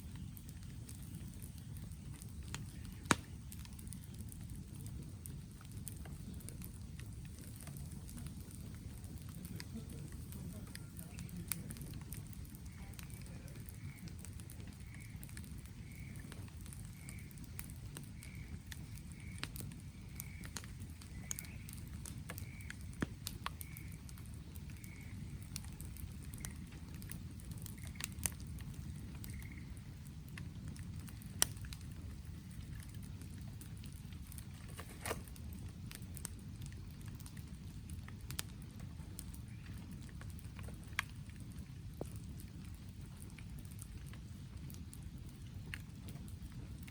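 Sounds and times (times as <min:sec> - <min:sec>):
campfire crackling and popping: 0:00.0 - 0:46.9
rain pattering: 0:00.0 - 0:46.9.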